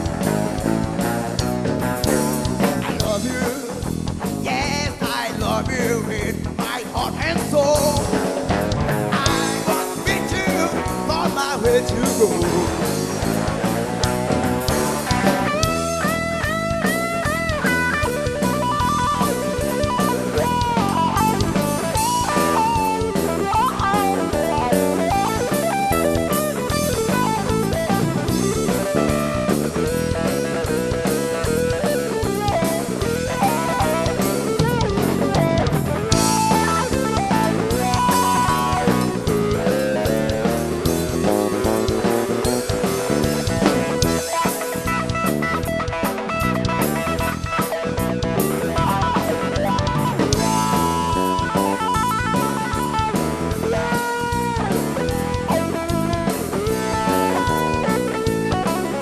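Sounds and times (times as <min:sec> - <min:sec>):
bass guitar: 0:00.0 - 0:59.0
drum kit: 0:00.0 - 0:59.0
electric guitar lead with bent notes: 0:00.0 - 0:59.0.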